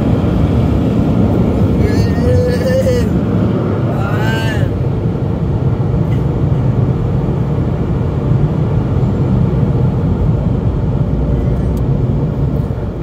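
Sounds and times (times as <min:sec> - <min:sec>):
car wash blowers roaring: 0:00.0 - 0:13.0.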